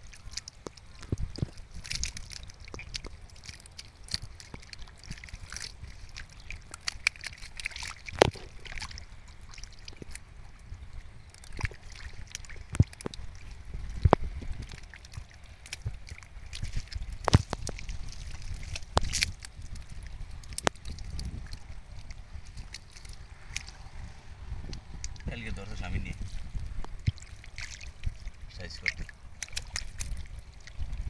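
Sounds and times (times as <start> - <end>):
water sloshing and splashing: 0.0 - 31.0.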